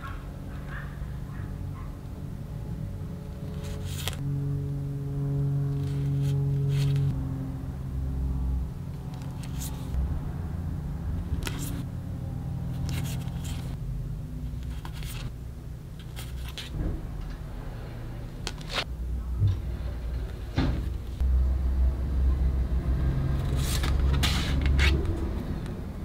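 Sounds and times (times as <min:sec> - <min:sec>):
low hum: 0:00.0 - 0:24.4.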